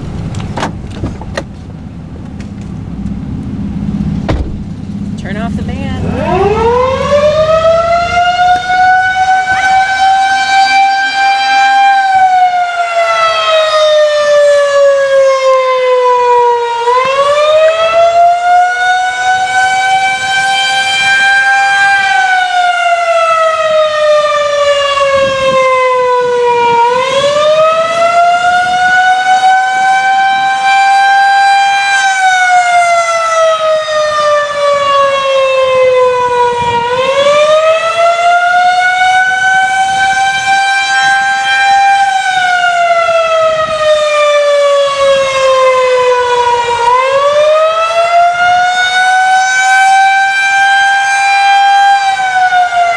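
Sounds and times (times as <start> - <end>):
warning siren wailing: 2.8 - 52.9.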